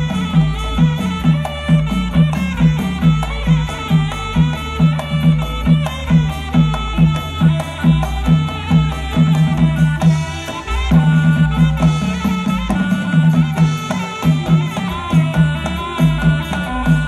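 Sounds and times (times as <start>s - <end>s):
steady drum beat: 0.0s - 17.0s
melody line: 2.8s - 17.0s.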